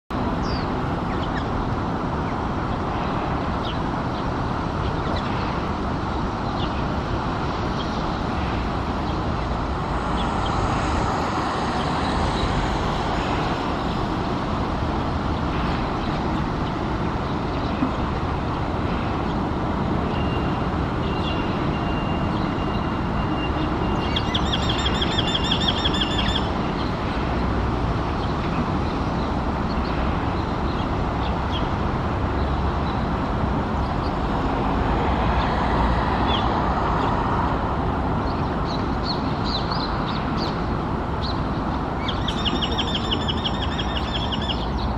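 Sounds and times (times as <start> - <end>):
road traffic rumble: 0.1 - 44.9.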